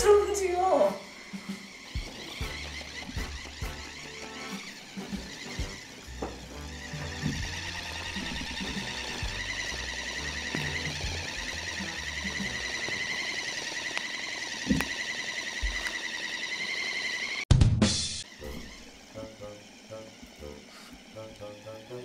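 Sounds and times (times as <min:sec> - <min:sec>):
motorised toy warbling buzz: 0:00.0 - 0:17.5, 0:18.2 - 0:22.0.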